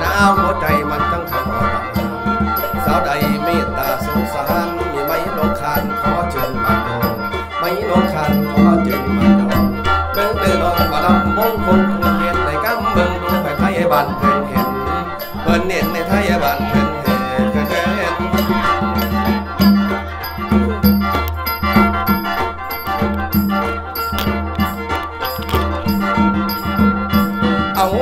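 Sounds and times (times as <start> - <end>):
mouth organ melody with drone: 0.0 - 28.0
percussion beat: 0.0 - 28.0.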